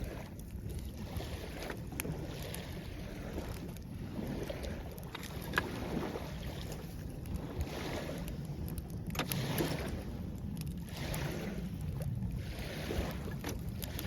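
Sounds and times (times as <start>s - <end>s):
small waves washing ashore: 0.0s - 14.0s
wind rumble on microphone: 0.0s - 14.0s.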